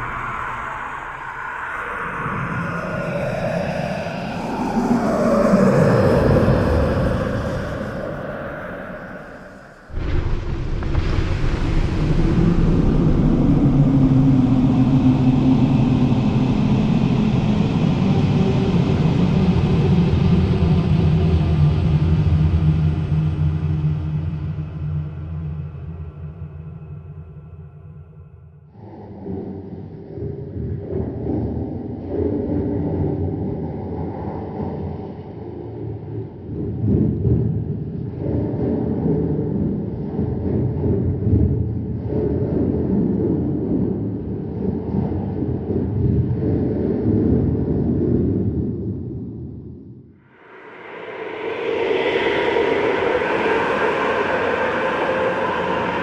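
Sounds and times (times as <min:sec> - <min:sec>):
low rumbling drone: 0:00.0 - 0:56.0.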